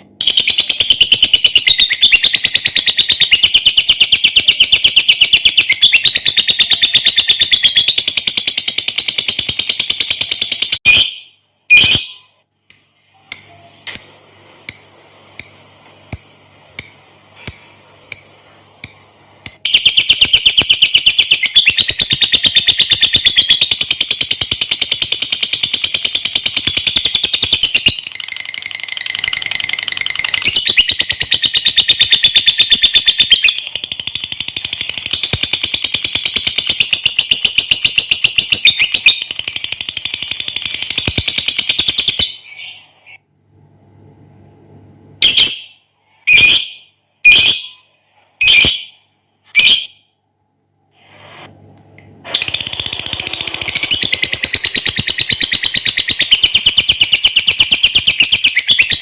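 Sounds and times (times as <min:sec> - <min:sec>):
sharp bird chirps: 0:00.2 - 0:43.2, 0:52.3 - 0:59.0.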